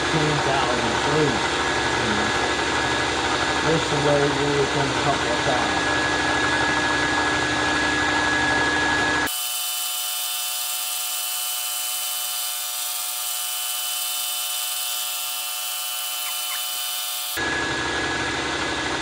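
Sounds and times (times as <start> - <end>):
thin steady whine: 0.0 - 9.5, 10.4 - 18.2
drill spindle running: 0.0 - 18.2.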